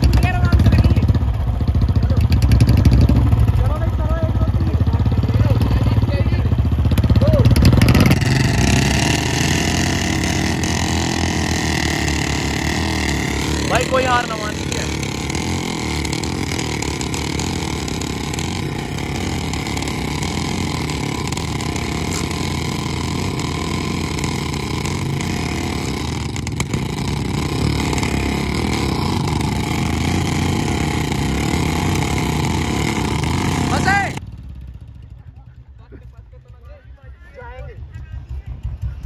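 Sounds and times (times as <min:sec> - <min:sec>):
motorcycle engines under heavy load: 0:00.0 - 0:39.0.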